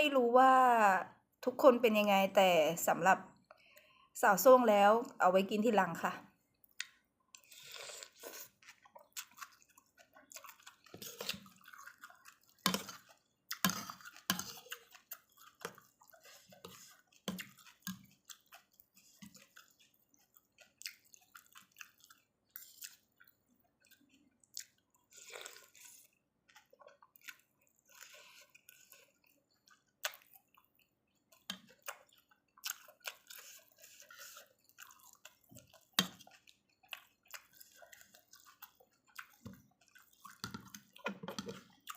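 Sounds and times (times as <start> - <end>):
person chewing and slurping soup: 6.3 - 41.9.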